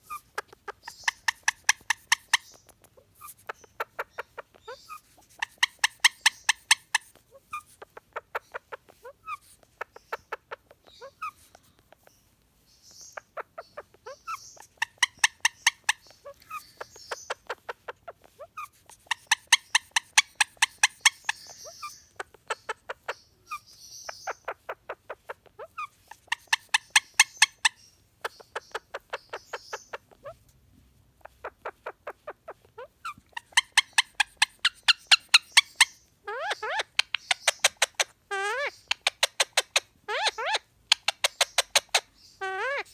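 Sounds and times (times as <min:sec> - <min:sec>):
parakeet calling: 0:00.0 - 0:42.9.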